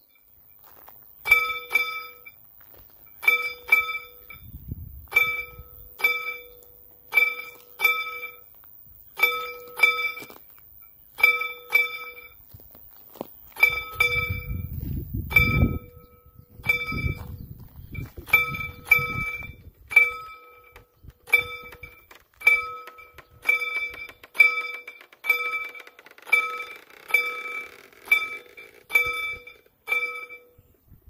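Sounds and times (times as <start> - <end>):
railroad crossing bell ringing: 0.0 - 2.4, 3.0 - 12.5, 13.6 - 30.8.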